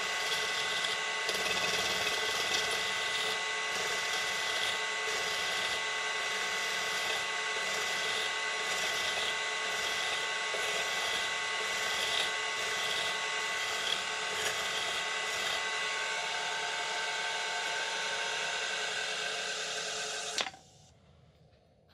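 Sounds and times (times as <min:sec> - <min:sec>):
lathe motor whine: 0:00.0 - 0:20.6
tool scraping spinning metal: 0:00.0 - 0:20.6.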